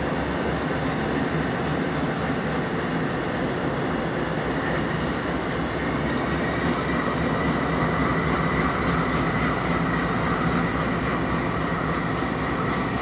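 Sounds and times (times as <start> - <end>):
diesel locomotive engines droning: 0.0 - 13.0.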